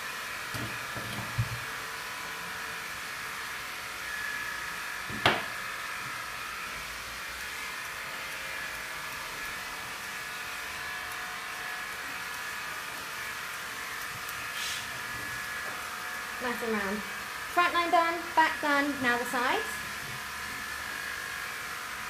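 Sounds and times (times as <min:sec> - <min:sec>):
small electric motor whirring: 0:00.0 - 0:22.0.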